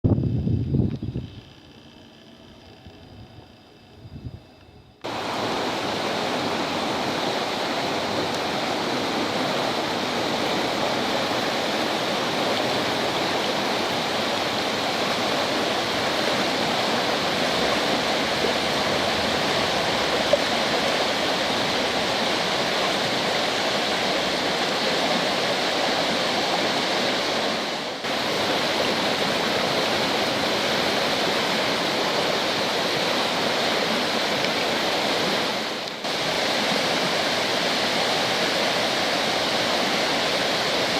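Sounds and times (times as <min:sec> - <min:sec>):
stream rushing: 0:05.0 - 0:40.9.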